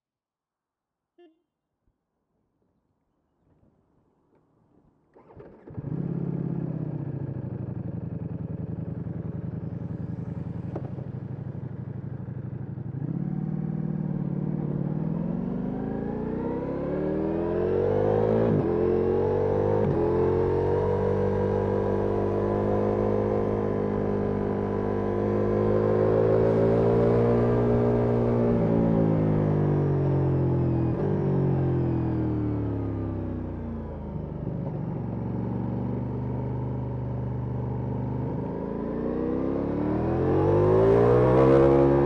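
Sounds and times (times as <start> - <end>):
motorcycle engine starting and revving: 5.1 - 42.0.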